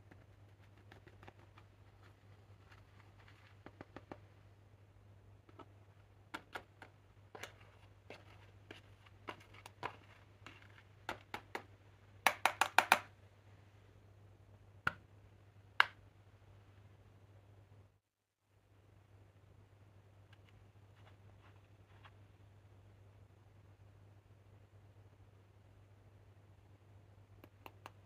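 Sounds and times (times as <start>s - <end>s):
faint low hum: 0.0s - 12.3s, 12.9s - 28.0s.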